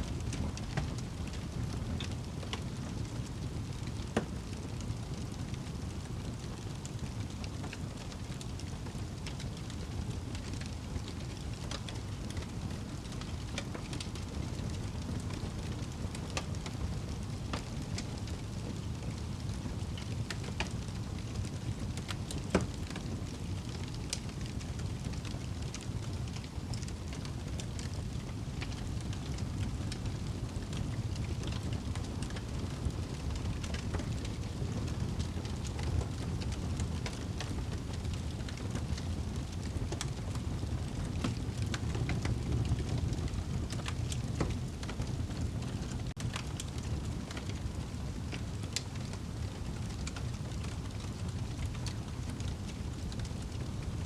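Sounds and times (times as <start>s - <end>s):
wood fire crackling: 0.0s - 54.0s
fire pops and snaps: 0.1s - 54.0s.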